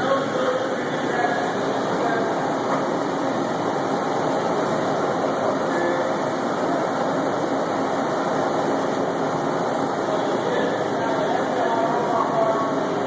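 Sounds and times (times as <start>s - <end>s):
three d printer whirring: 0.0s - 13.0s.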